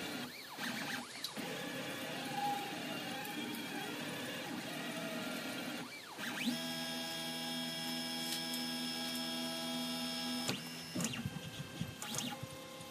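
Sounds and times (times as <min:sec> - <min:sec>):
stepper motors whining: 0:00.0 - 0:12.9.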